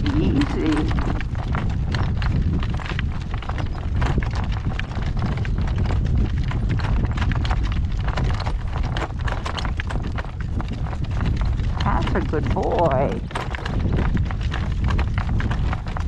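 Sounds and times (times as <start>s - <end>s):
horse hooves clip-clop: 0.0s - 16.0s
steady low rumble: 0.0s - 16.0s.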